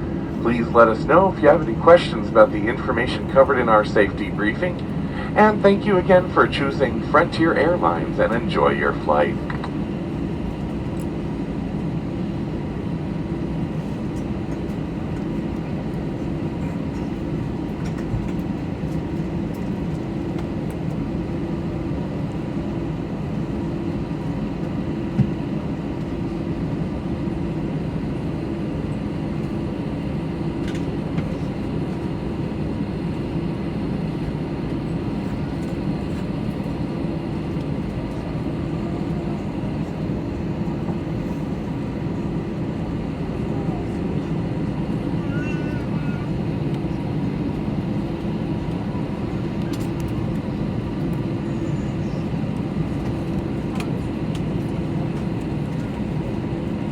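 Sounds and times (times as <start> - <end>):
aircraft cabin hum: 0.0 - 56.9.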